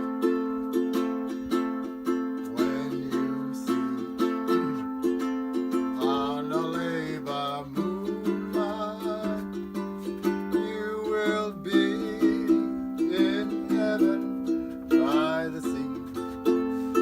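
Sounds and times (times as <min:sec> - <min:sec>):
strummed ukulele tune: 0:00.0 - 0:17.0.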